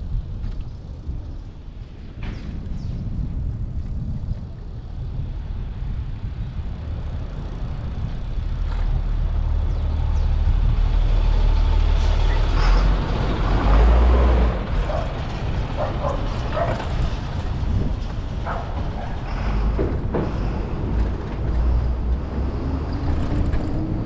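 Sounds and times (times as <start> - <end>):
street traffic: 0.0 - 24.0
wind rumble: 0.0 - 24.0.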